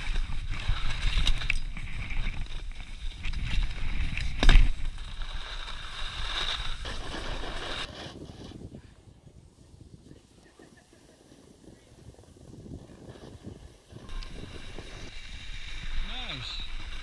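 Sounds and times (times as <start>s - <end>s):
skis scraping over snow: 0.0s - 9.0s, 9.6s - 17.0s
wind noise on microphone: 0.0s - 17.0s.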